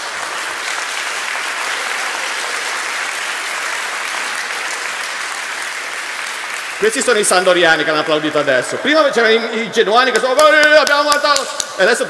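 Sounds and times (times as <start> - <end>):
audience applauding: 0.0 - 9.1, 10.1 - 12.0.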